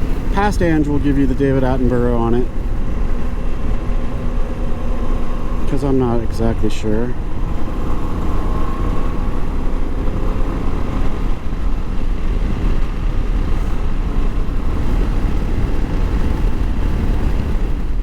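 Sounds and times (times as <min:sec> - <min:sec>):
motorcycle engine drone: 0:00.0 - 0:18.0
wind rush: 0:00.0 - 0:18.0.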